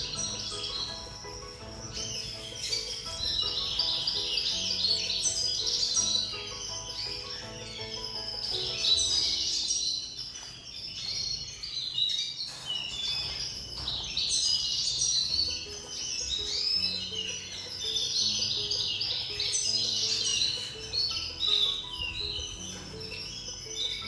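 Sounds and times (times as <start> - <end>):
background music with low notes: 0.0 - 24.0
songbirds chirping: 0.0 - 24.0.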